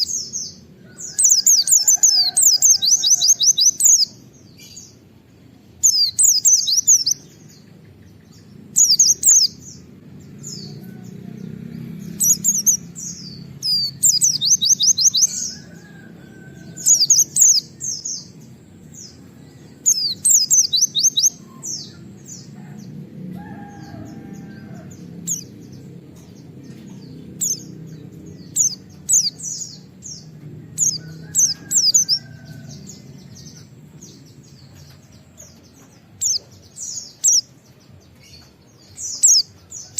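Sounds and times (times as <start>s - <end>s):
low steady background noise: 0.0s - 39.9s.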